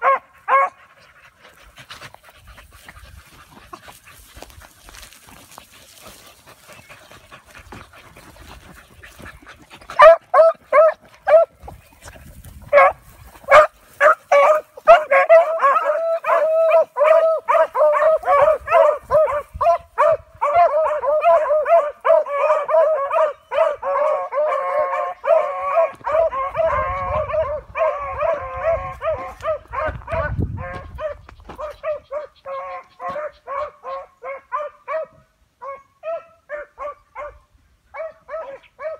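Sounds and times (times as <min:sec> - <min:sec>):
hounds barking and baying: 0:00.0 - 0:38.9.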